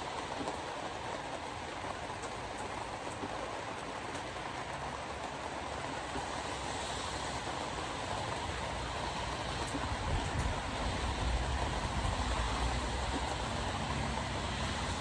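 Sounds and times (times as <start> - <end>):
heavy rain hissing: 0.0 - 15.0
tyres on wet road: 0.0 - 15.0.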